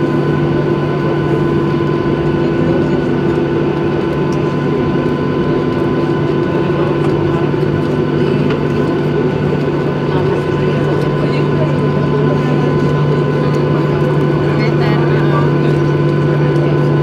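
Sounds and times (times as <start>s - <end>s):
jet engine cabin hum: 0.0s - 17.0s
jet engine whine: 0.0s - 17.0s.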